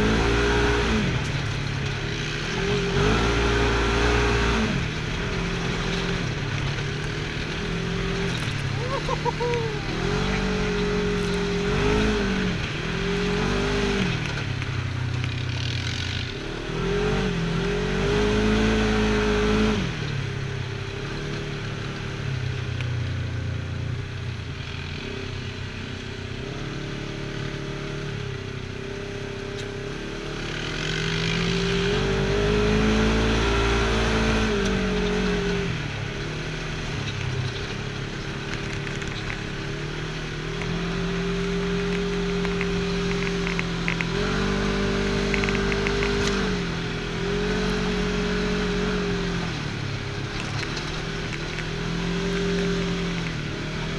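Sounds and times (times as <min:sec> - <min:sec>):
vehicle engine revving: 0:00.0 - 0:22.6, 0:24.4 - 0:53.9.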